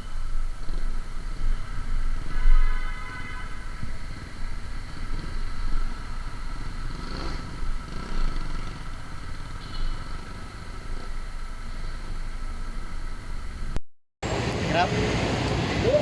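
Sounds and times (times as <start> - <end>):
road noise: 0.0 - 16.0
vehicle engine rumbling: 0.0 - 16.0.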